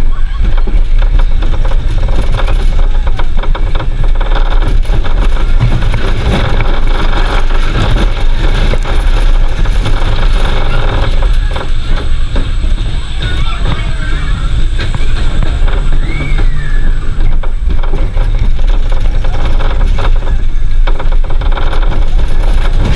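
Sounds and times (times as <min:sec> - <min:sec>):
roller coaster rumbling on track: 0:00.0 - 0:22.9.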